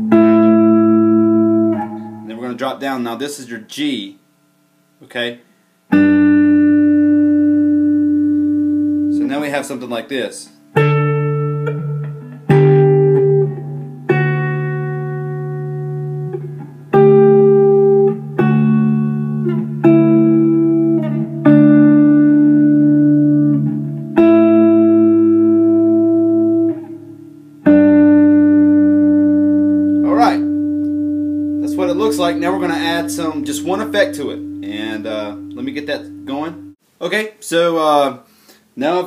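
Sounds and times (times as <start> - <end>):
clean electric guitar riff: 0.0 - 3.1, 5.9 - 9.8, 10.6 - 36.8.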